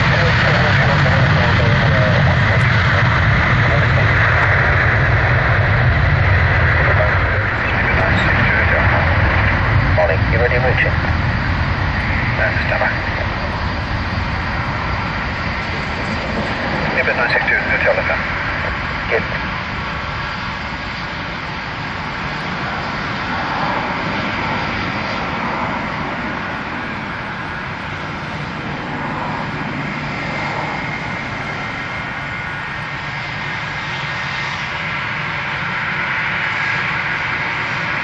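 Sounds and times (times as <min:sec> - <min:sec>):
jet engines running: 0:00.0 - 0:38.0.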